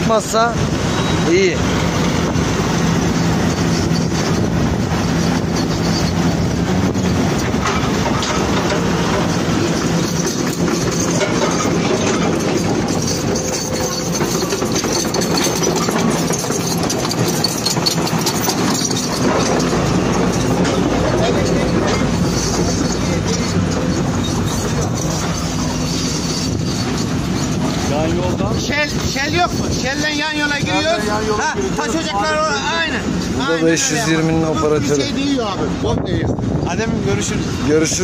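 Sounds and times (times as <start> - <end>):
heavy diesel truck engine: 0.0 - 38.0.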